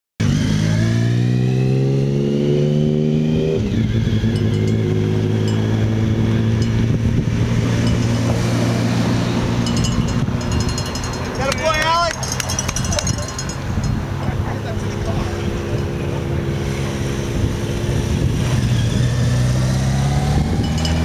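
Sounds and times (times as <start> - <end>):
car engine passing: 0.2 - 21.0
motorcycle engine passing: 0.2 - 21.0.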